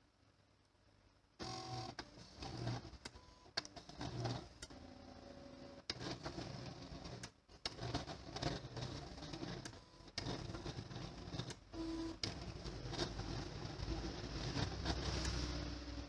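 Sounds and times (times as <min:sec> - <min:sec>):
plotter clicking and whirring: 0:01.4 - 0:16.0.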